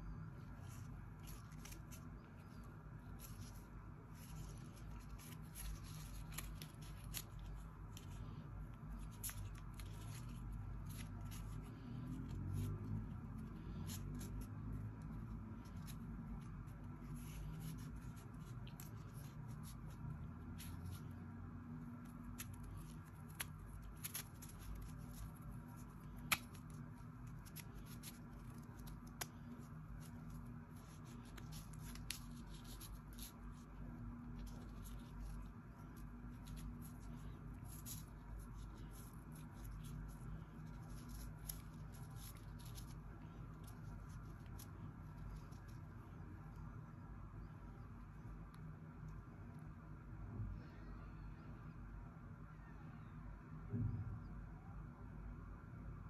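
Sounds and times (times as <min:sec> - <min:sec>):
packaging rubbing and rustling: 0:00.0 - 0:46.0.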